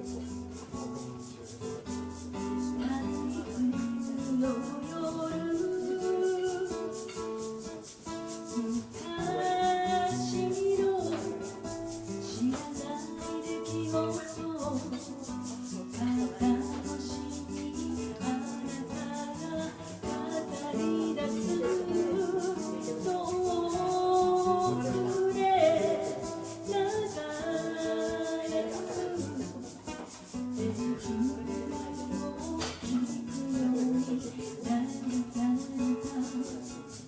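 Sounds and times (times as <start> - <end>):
shaker beat: 0.0 - 37.0.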